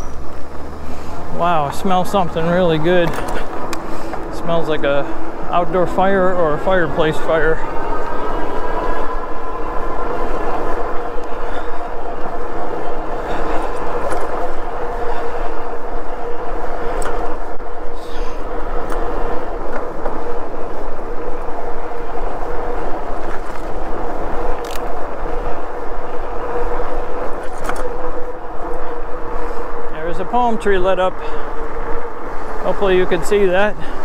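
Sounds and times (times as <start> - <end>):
electric bike hum: 0.0 - 34.0.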